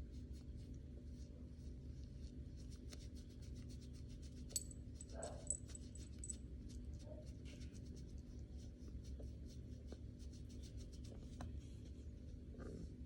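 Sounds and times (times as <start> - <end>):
low steady hum: 0.0 - 13.0
quick rubbing and scratching: 0.2 - 13.0.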